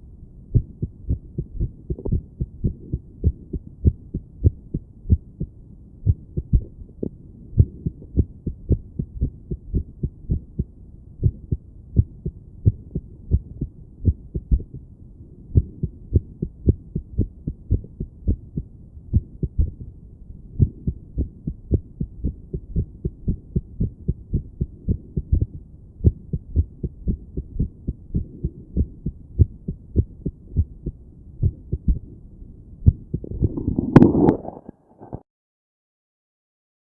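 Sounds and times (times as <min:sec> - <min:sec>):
heartbeat through a stethoscope: 0:00.0 - 0:32.2, 0:32.8 - 0:35.2.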